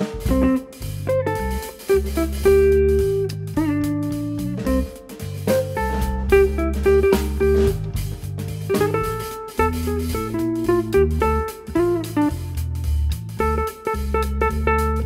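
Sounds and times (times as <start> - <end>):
bass line: 0.0 - 15.0
light drum beat: 0.0 - 15.0
plucked guitar melody: 0.0 - 15.0.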